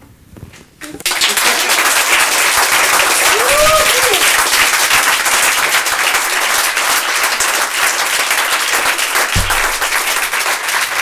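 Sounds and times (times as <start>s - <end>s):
audience applauding: 0.9s - 11.0s.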